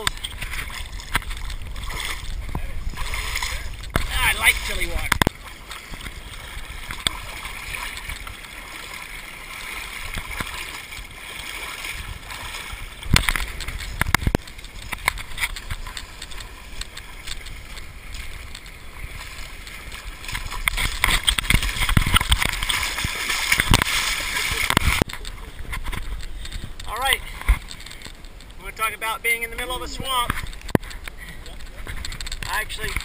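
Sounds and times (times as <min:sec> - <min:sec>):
people wading and splashing in water: 0:00.0 - 0:33.0.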